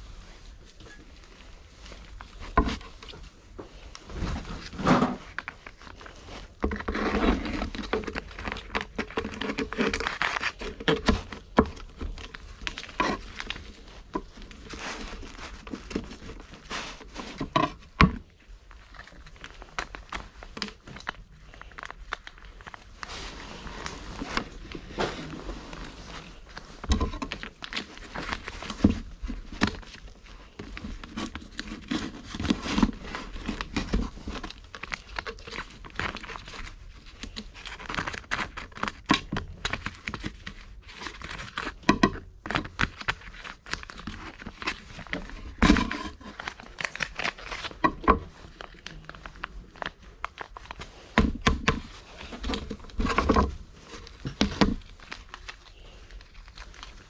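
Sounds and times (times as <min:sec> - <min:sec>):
cats crunching dry kibble: 0:00.0 - 0:57.0.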